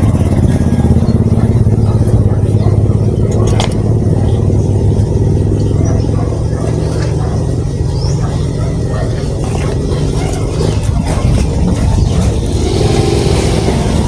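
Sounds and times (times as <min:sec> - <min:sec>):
road and traffic rumble: 0:00.0 - 0:14.0
vehicle engine droning: 0:00.0 - 0:14.0.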